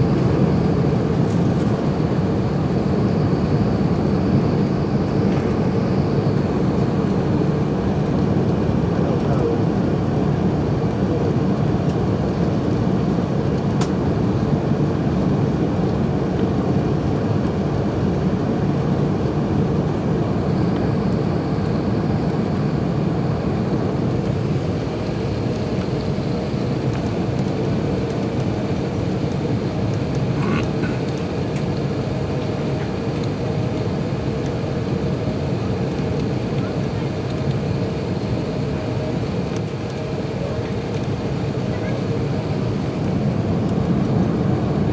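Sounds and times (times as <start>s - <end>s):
airplane cabin engine roar: 0.0s - 44.9s.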